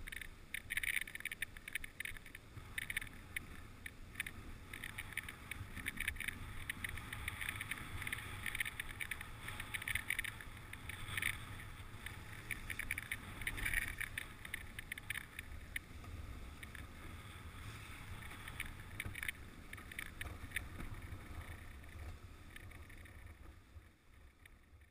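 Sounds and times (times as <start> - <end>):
sled clicks and rattles: 0.0 - 24.9.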